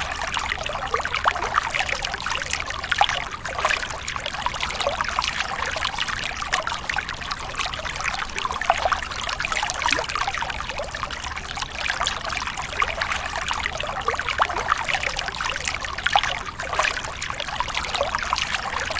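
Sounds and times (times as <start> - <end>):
water pouring and splashing: 0.0 - 18.9.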